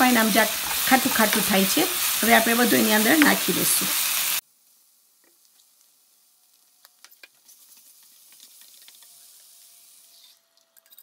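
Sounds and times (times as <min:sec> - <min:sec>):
masala sizzling in a frying pan: 0:00.0 - 0:10.3.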